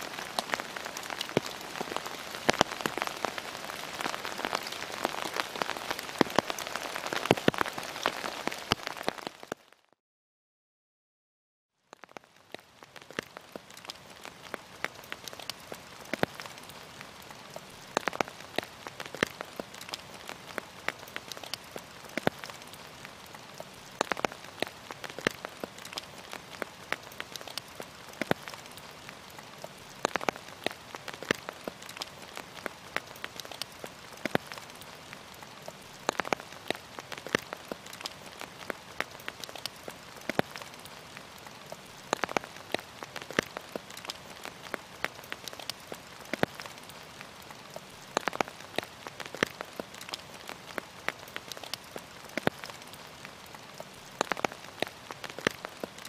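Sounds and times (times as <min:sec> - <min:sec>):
raindrops tapping on a surface: 0:00.0 - 0:09.6, 0:11.9 - 0:56.0
rain falling steadily: 0:00.0 - 0:10.0, 0:11.8 - 0:56.0.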